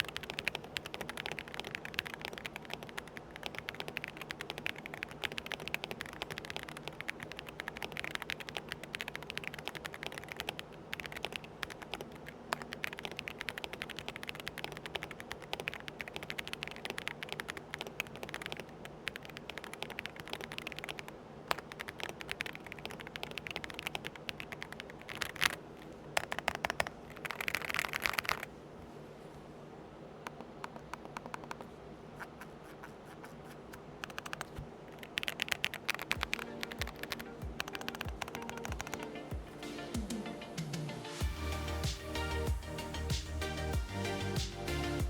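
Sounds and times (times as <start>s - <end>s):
mechanical keyboard typing: 0.0s - 28.5s, 30.3s - 39.8s.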